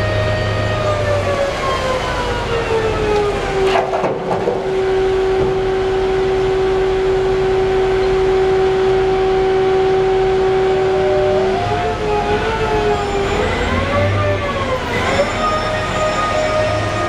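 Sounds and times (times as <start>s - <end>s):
heavy machine whine: 0.0s - 17.0s.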